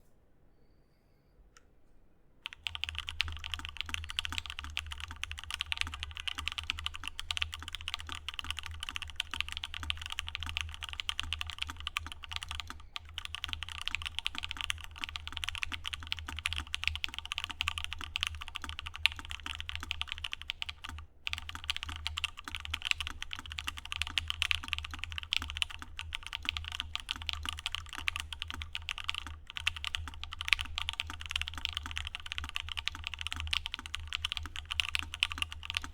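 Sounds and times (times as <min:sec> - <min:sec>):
fast typing on mechanical keyboard: 0:02.4 - 0:35.9.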